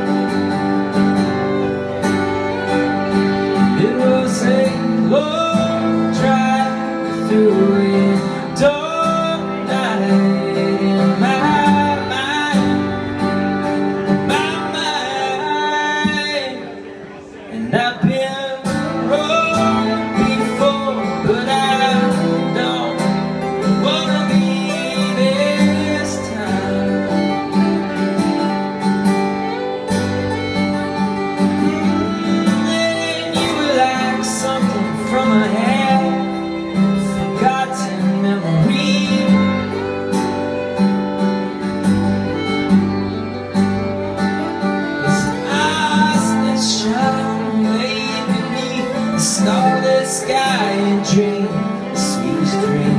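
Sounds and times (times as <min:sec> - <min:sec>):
acoustic guitars playing: 0:00.0 - 0:52.9
fiddle melody: 0:00.0 - 0:52.9.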